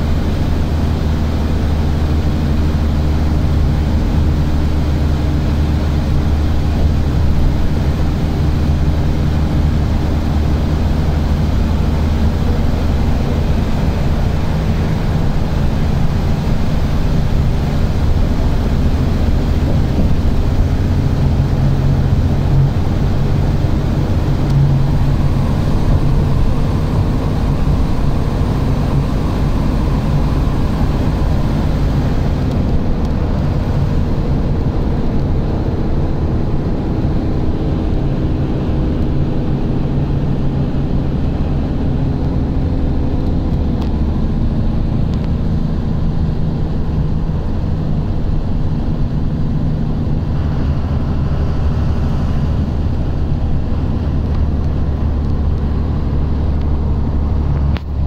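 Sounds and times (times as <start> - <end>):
car engine hum: 0.0 - 58.0
tyre road noise: 0.0 - 58.0
wind noise: 0.0 - 58.0.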